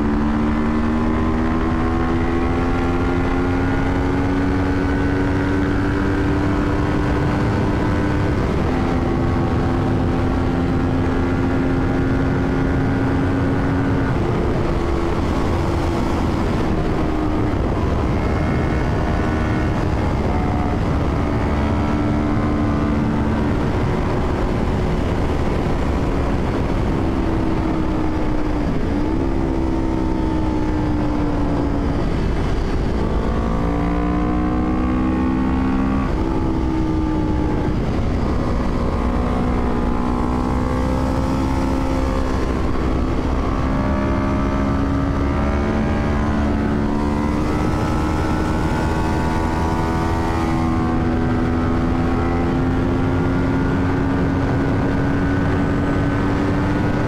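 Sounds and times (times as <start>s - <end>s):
motorcycle engine under way: 0.0s - 57.0s
wind noise: 0.0s - 57.0s.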